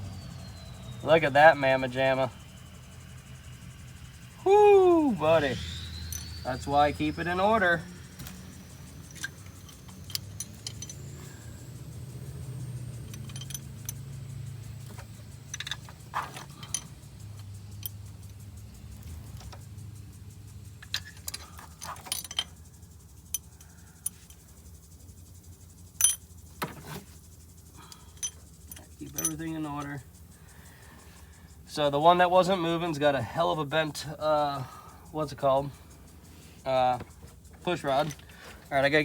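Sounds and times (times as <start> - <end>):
low steady hum: 0.0 - 39.0
small metal parts clinking: 5.2 - 32.2, 33.9 - 39.0.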